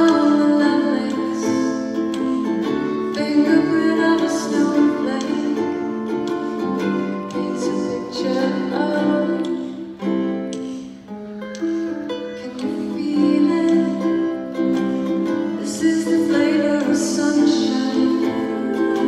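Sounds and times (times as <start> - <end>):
ukulele strumming chords: 0.0 - 19.0.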